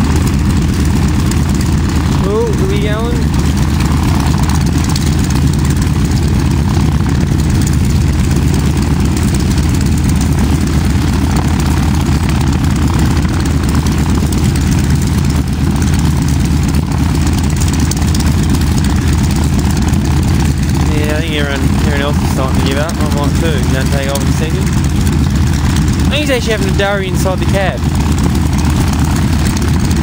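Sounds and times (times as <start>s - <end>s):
airplane engine idling: 0.0s - 30.0s.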